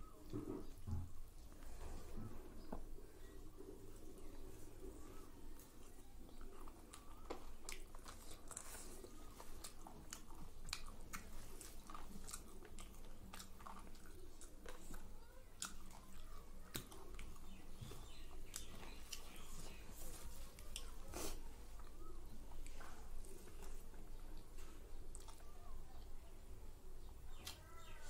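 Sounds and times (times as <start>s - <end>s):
person chewing and smacking: 2.6s - 26.2s, 27.0s - 28.0s.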